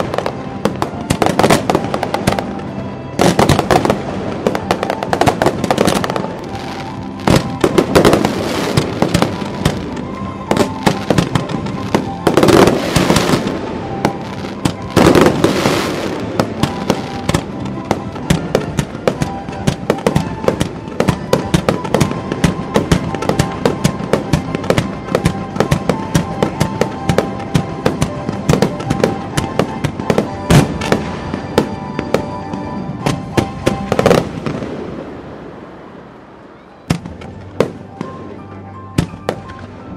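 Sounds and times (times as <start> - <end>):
fireworks bangs and crackles: 0.0 - 39.9
music: 0.0 - 39.9.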